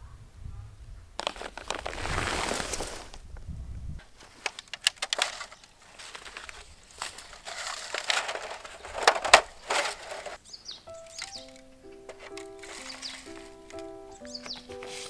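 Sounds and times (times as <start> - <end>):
plastic trays crackling and clicking: 1.2 - 3.2, 4.0 - 10.4, 11.0 - 15.0
sharp plastic crack: 1.2 - 3.3, 4.0 - 10.4, 11.0 - 15.0.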